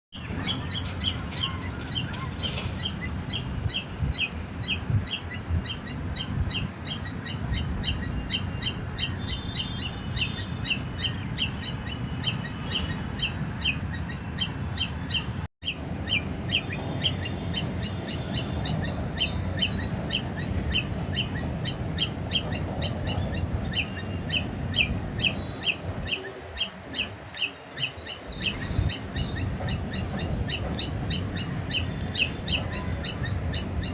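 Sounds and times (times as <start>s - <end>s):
squirrel alarm chirps: 0.2s - 33.9s.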